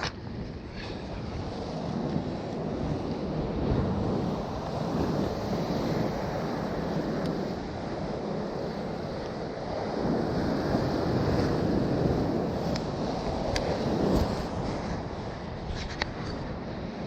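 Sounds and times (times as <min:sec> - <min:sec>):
sea surf washing: 0:00.0 - 0:17.0
wind on microphone: 0:00.0 - 0:17.0.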